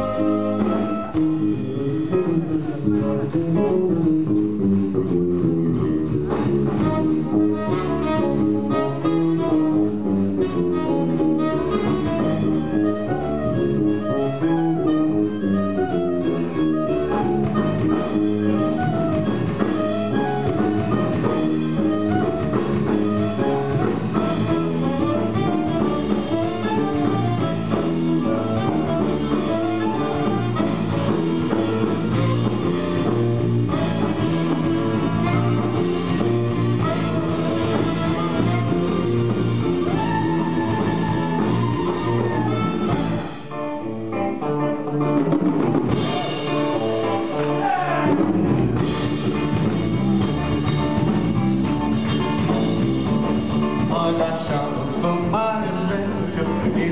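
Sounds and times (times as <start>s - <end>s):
live band playing: 0.0s - 56.9s.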